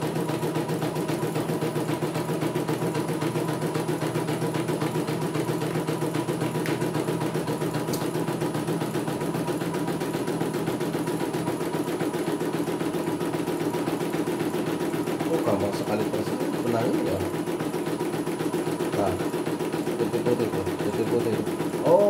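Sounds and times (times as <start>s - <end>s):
embroidery machine stitching: 0.0s - 22.0s.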